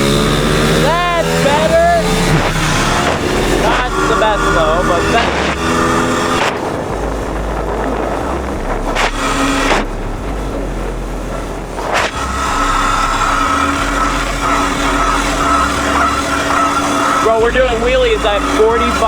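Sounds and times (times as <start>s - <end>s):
dirt bike engine running: 0.0s - 19.0s
wind rushing over microphone: 0.0s - 19.0s.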